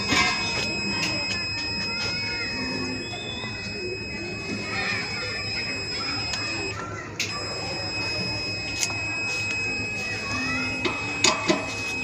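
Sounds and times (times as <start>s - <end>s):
high buzzer tone: 0.0s - 12.0s.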